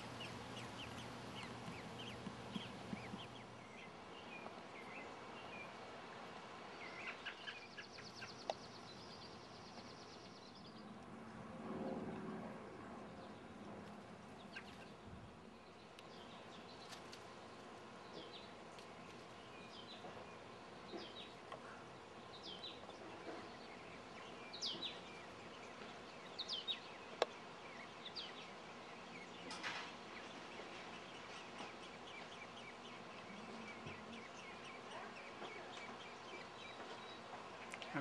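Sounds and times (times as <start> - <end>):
faint birds chirping: 0.0 - 38.0.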